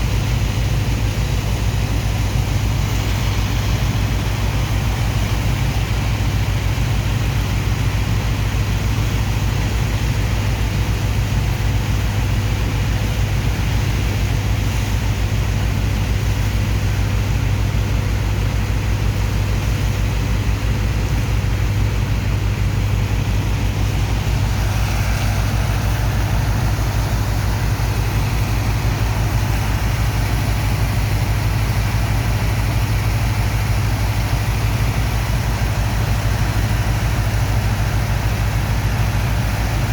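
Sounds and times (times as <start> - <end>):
heavy pump engine rumbling: 0.0 - 39.9.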